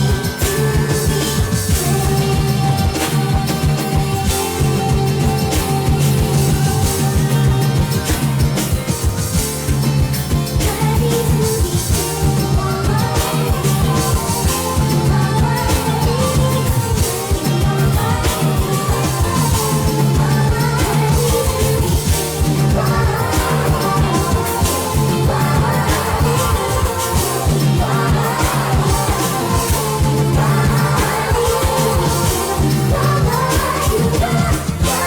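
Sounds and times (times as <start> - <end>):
rock music with singing: 0.0 - 35.0.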